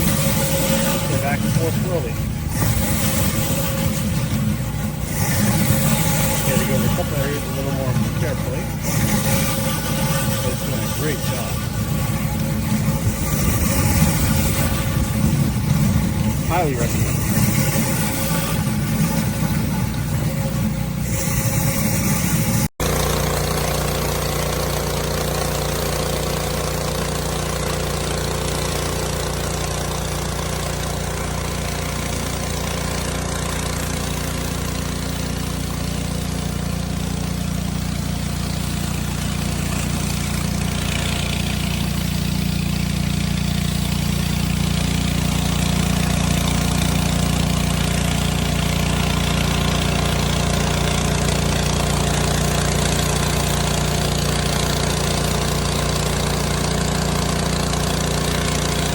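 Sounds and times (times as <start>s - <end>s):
pressure washer engine running: 0.0s - 58.9s.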